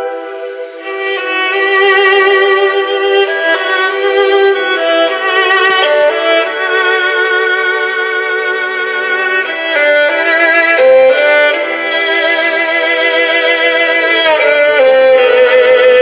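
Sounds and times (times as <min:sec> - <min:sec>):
violin music through loudspeaker: 0:00.0 - 0:16.0.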